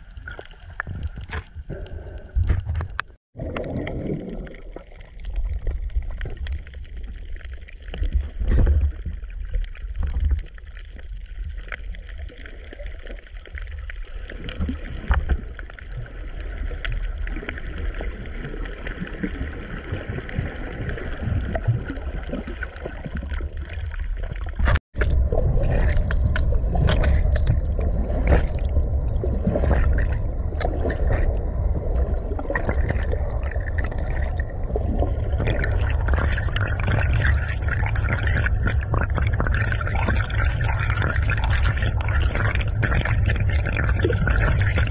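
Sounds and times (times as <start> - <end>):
gurgling bubbles: 0.0 - 44.9
underwater rush of water: 0.0 - 44.9.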